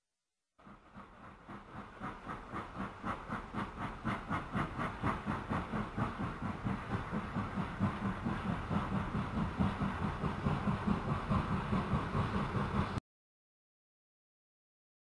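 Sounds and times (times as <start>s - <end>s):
model steam train chugging: 0.6s - 13.0s.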